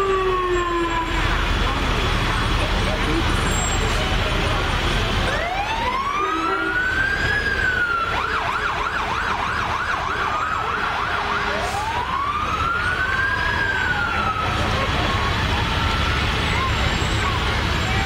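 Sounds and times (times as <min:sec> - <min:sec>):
emergency vehicle siren: 0:00.0 - 0:18.0.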